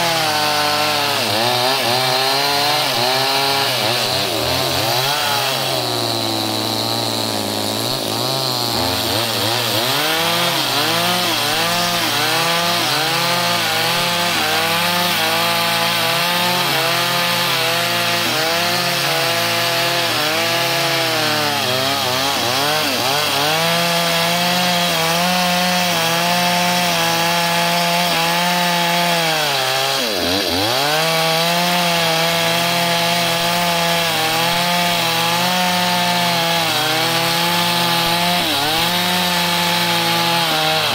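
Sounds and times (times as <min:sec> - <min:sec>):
chainsaw cutting hard wood: 0:00.0 - 0:40.9.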